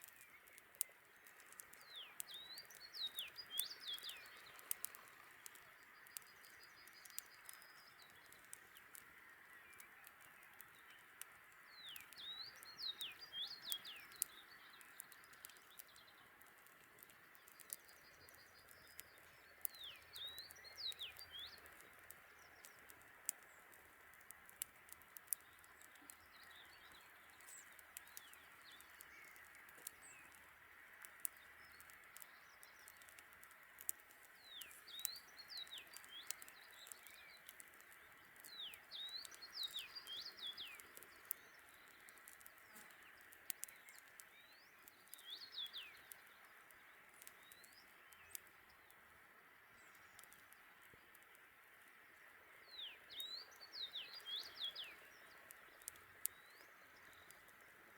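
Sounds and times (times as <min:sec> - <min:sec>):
campfire crackling and popping: 0:00.0 - 0:57.9
songbirds chirping: 0:00.0 - 0:57.9.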